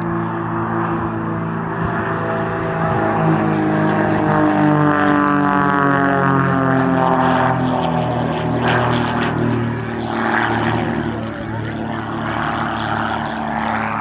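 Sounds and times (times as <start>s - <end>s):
propeller aircraft engine drone: 0.0s - 14.0s.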